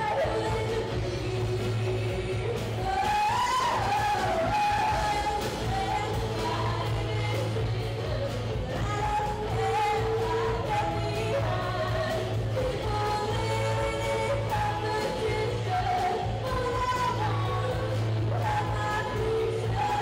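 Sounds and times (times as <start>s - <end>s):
rock band playing: 0.0s - 20.0s
women singing: 0.0s - 20.0s.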